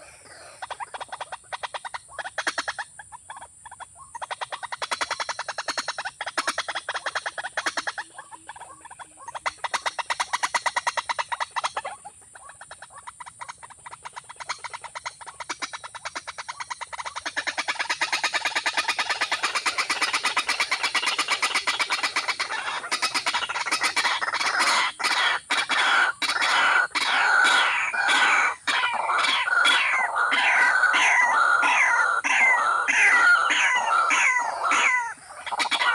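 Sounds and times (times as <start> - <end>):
bird calling in clicking pulses: 0.6 - 35.9.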